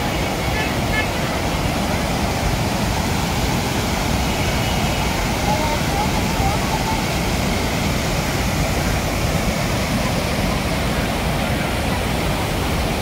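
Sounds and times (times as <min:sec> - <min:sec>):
water rushing over weir: 0:00.0 - 0:13.0.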